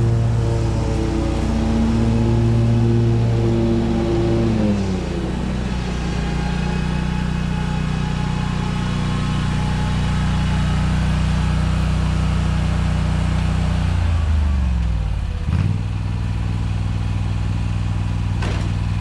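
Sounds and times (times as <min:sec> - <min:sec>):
riding mower engine running: 0:00.0 - 0:19.0.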